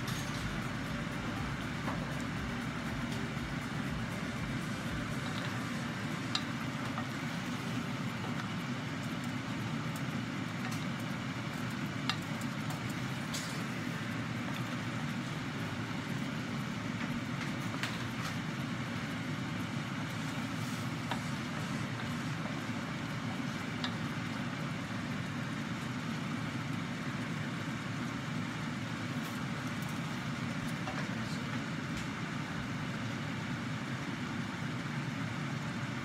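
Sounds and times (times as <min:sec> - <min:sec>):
cooking rushing noise: 0:00.0 - 0:36.0.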